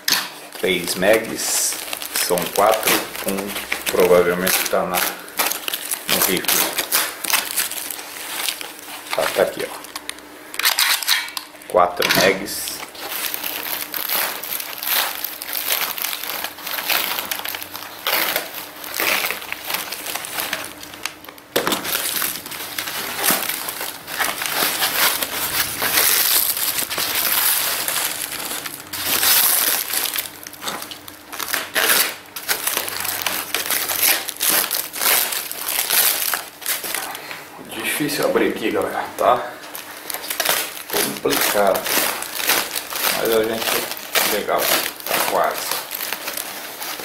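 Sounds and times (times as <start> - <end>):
plastic wrap crinkling: 0.0 - 47.0.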